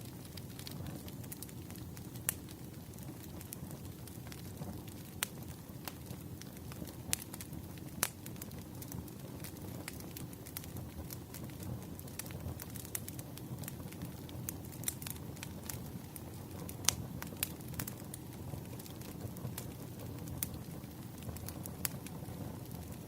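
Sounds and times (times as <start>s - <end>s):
low rush of flame: 0.0s - 23.0s
wood crackling and popping: 0.0s - 23.0s.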